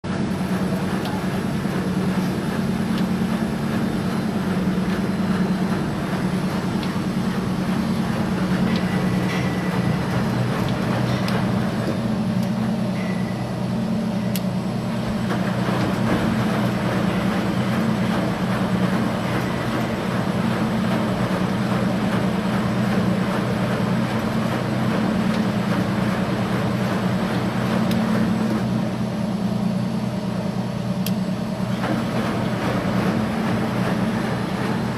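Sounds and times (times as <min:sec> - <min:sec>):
machinery droning: 0:00.1 - 0:34.9.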